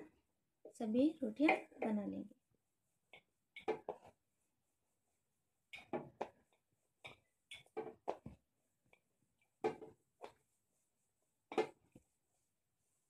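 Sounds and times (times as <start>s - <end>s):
hands patting dough: 0.0s - 13.0s.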